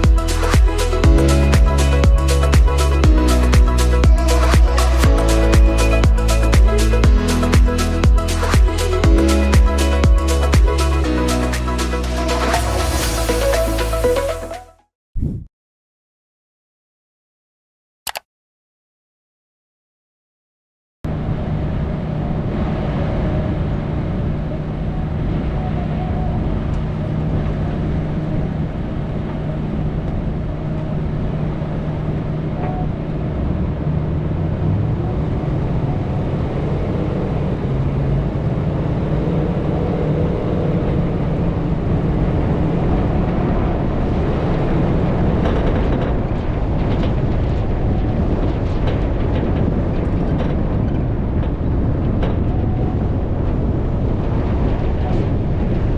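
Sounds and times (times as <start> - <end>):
vehicle engine hum: 0.0 - 14.7, 21.1 - 55.9.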